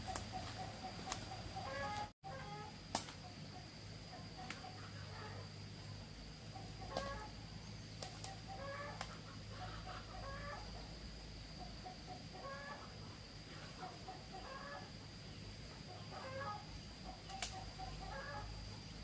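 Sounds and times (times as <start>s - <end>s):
chickens clucking: 0.0s - 19.0s
steady low hum: 0.0s - 19.0s.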